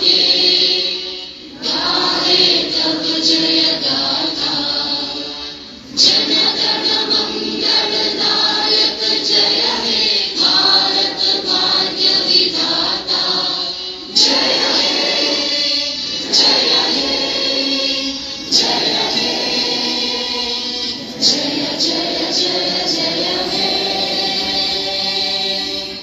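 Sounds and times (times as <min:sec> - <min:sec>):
children singing in unison: 0:00.0 - 0:26.0.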